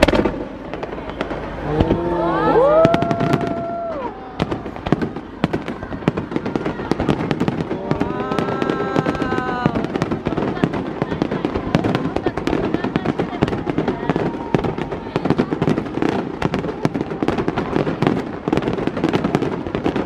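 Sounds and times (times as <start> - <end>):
drawn-out voices: 0.0 - 20.0
fireworks crackling and bursting: 0.0 - 20.0.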